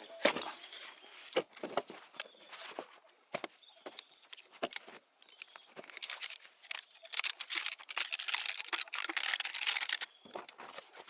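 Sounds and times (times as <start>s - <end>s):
dense crinkling rustle: 0.2s - 11.0s
clicks and knocks of gear handled: 1.4s - 11.0s.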